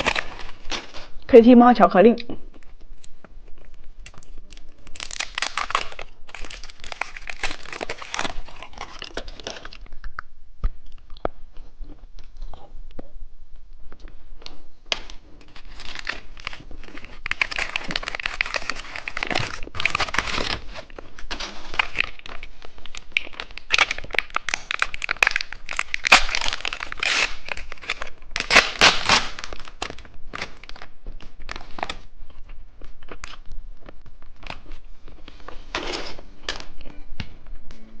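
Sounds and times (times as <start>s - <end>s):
plastic wrapper crinkling and tearing: 0.0s - 1.2s, 2.5s - 10.3s, 14.4s - 36.7s.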